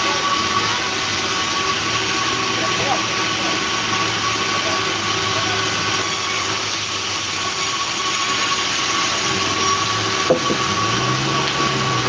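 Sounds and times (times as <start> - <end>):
sawmill machinery droning: 0.0 - 12.0.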